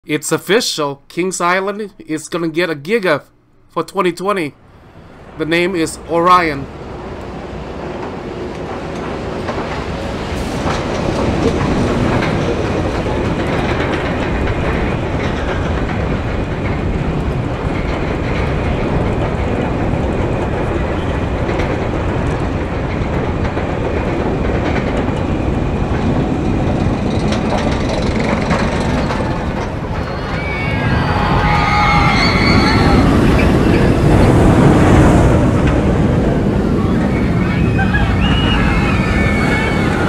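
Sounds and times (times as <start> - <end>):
roller coaster lift chain clattering: 4.9 - 40.0.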